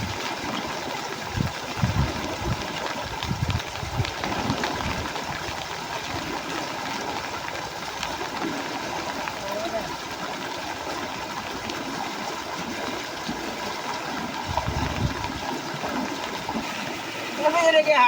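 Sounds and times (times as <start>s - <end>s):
shallow water sloshing and splashing: 0.0s - 18.0s.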